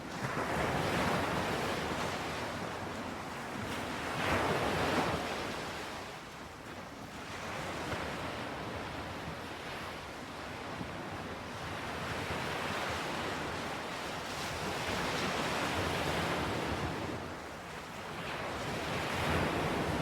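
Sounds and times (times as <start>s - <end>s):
ocean waves on shore: 0.0s - 20.0s.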